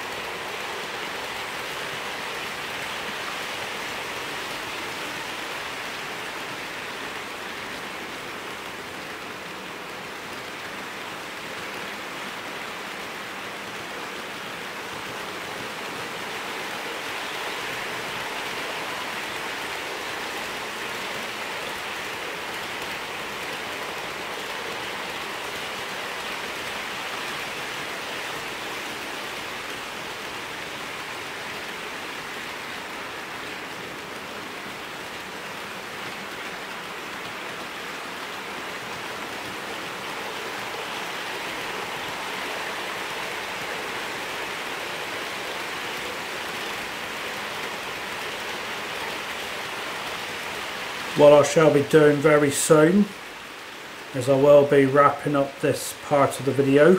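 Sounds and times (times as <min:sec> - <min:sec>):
model trains running on track: 0:00.0 - 0:56.9.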